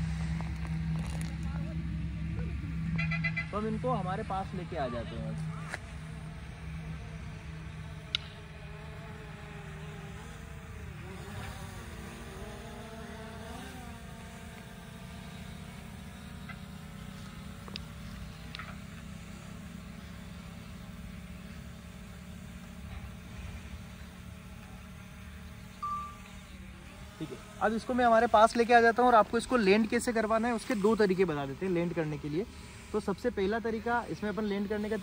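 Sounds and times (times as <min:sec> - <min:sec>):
drone propellers humming: 0:00.0 - 0:35.0.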